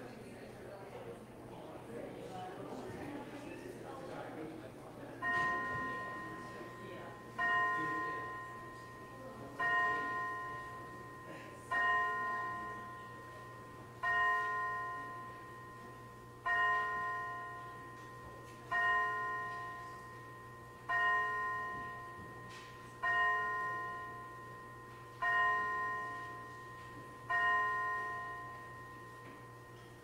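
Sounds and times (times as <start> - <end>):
church bell tolling: 5.2 - 30.0.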